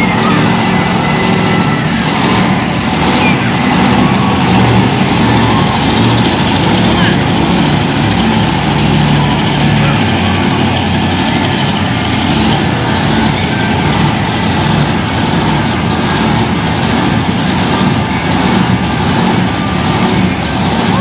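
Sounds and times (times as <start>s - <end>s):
loud truck engine running: 0.0s - 21.0s.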